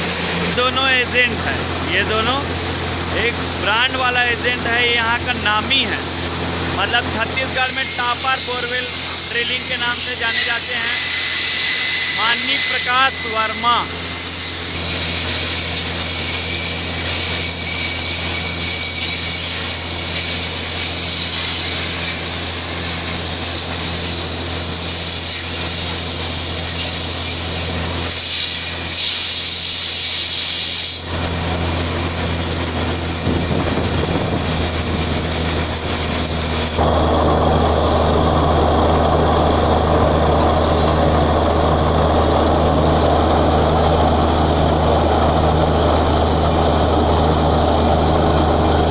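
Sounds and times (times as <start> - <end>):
loud air hiss: 0.0 - 36.9, 37.7 - 48.9.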